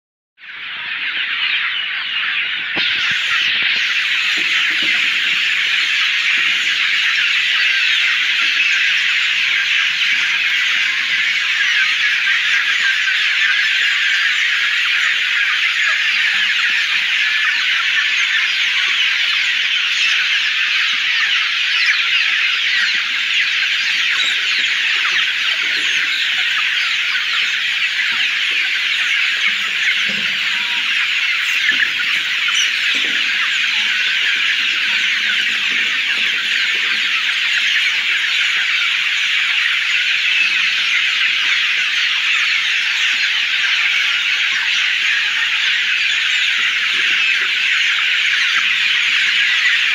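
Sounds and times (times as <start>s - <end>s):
chickens peeping and chirping: 0.4s - 49.9s.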